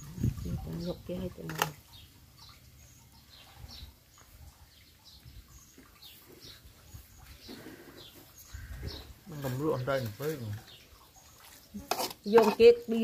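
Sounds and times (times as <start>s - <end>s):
faint bird chirping: 0.2s - 11.9s.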